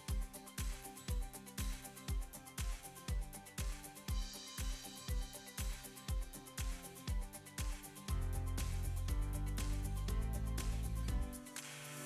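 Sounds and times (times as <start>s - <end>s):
kick drum beat: 0.0s - 11.5s
upbeat background music: 0.0s - 12.0s.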